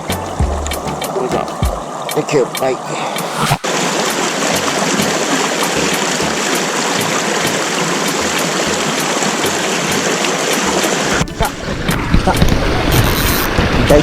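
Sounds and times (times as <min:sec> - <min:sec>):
creek water rushing: 0:00.0 - 0:12.8.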